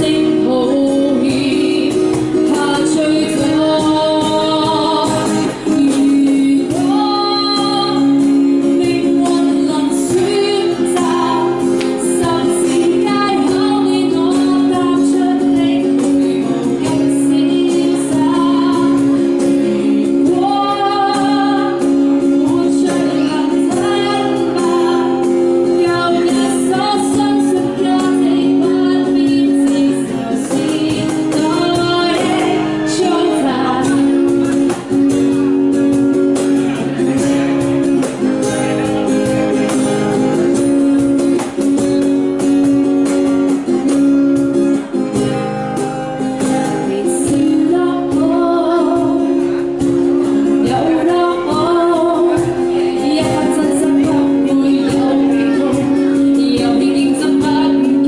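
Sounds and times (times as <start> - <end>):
woman singing pop song: 0.0 - 36.4, 45.1 - 58.0
cajon beating rhythm: 0.0 - 58.0
strummed acoustic guitar: 0.0 - 58.0.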